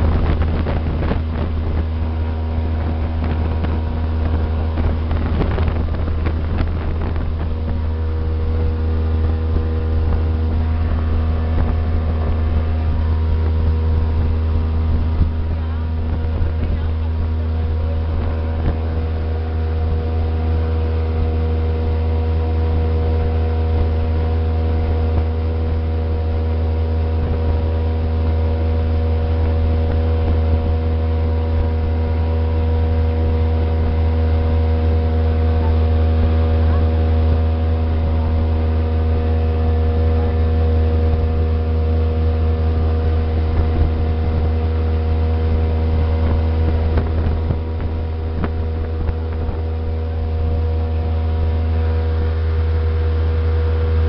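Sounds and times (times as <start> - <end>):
motorboat engine drone: 0.0 - 54.0.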